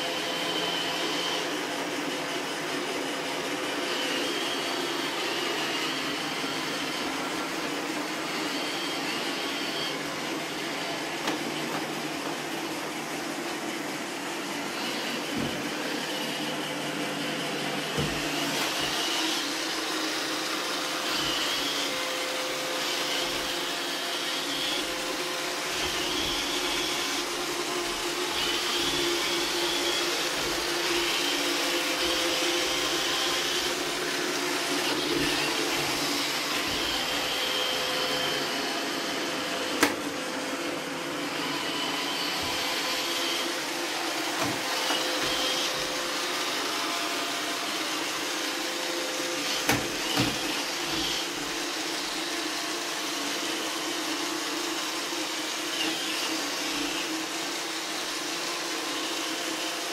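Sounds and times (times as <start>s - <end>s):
robot vacuum cleaners running: 0.0s - 59.9s.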